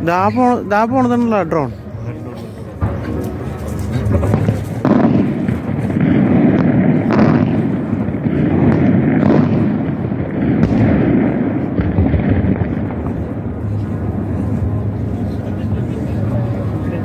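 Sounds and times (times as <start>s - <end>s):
rumble of explosions: 0.0s - 17.0s
fireworks bangs: 2.6s - 17.0s.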